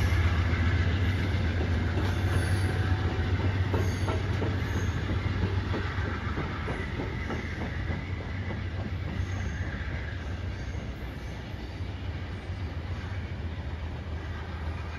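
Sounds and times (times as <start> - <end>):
train wheels clicking over rail joints: 0.0 - 13.1
train rumble: 0.0 - 14.9.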